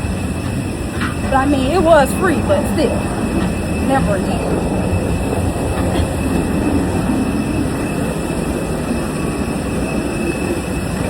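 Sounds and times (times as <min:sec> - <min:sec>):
airliner cabin rumble: 0:00.0 - 0:11.0
faint steady whine: 0:00.0 - 0:11.0.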